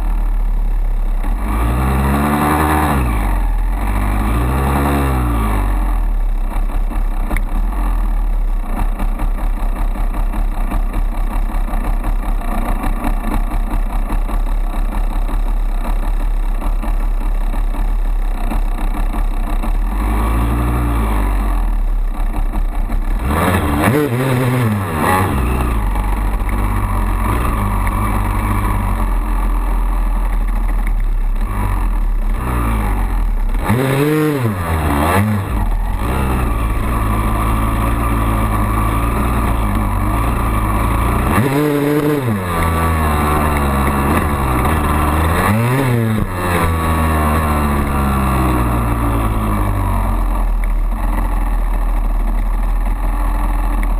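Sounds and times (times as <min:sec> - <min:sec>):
two-stroke motorcycle engine revving: 0:00.0 - 0:53.9.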